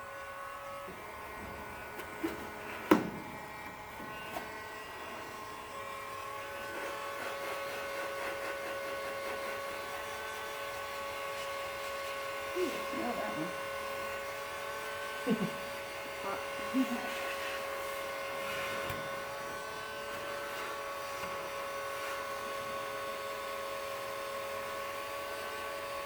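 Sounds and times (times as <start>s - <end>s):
small electric motor whine: 0.0s - 26.0s.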